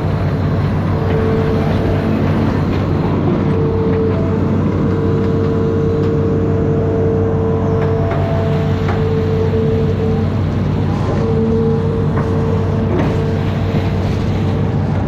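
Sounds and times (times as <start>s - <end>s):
excavator diesel engine running: 0.0s - 15.0s
steady whine: 0.0s - 15.0s.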